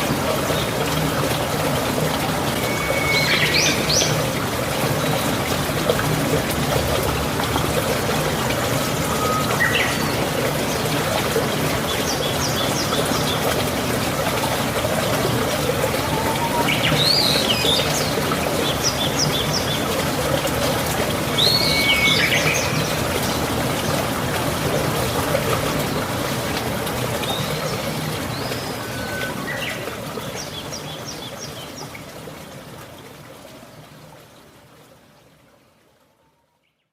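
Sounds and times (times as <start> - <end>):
water trickling: 0.0 - 36.8.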